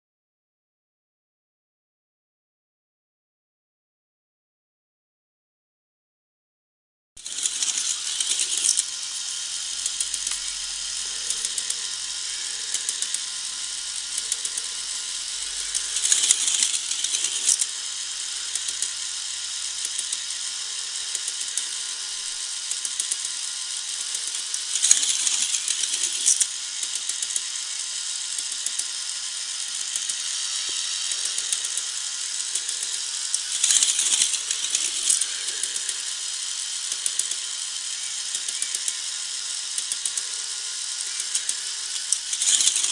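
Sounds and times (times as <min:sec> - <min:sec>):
lift motor clicking rattle: 0:07.2 - 0:42.9
toy coaster car rushing down track: 0:07.2 - 0:42.9.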